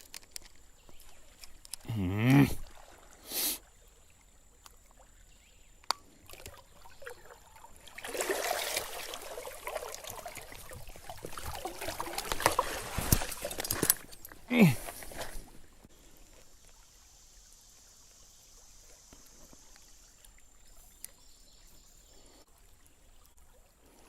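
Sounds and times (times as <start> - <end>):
creek water splashing and trickling: 0.0 - 24.0.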